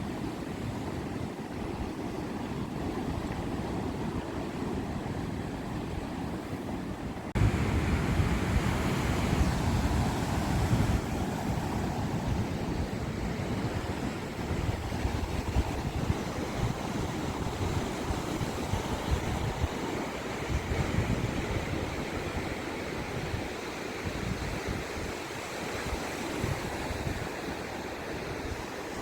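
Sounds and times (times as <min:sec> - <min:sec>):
sea waves washing onto shore: 0:00.0 - 0:29.0.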